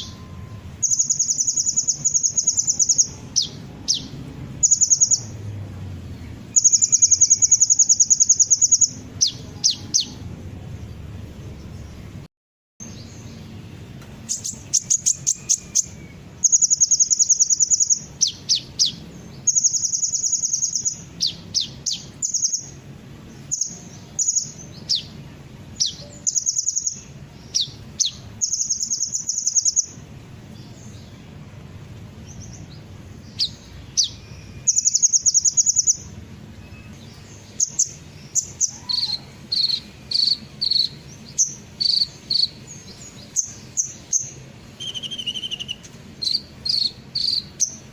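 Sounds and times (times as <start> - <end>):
bird buzzy trills and chirps: 0.0 - 47.9.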